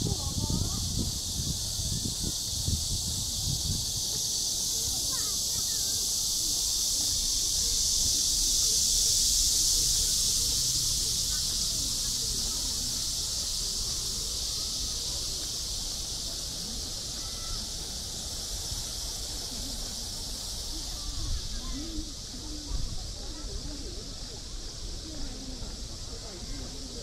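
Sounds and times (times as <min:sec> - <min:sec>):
faint voices: 0:00.0 - 0:27.0
high-pitched insect chorus: 0:00.0 - 0:27.0.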